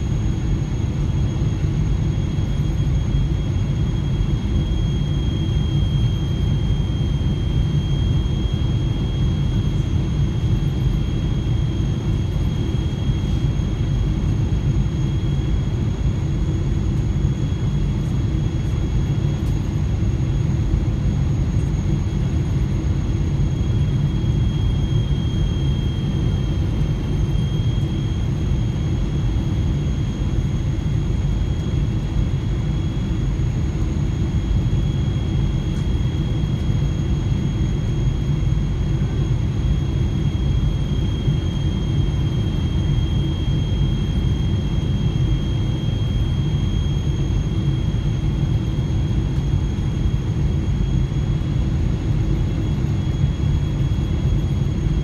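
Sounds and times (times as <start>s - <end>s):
high-pitched whine: 0.0s - 55.0s
low rumble of engines and airflow: 0.0s - 55.0s.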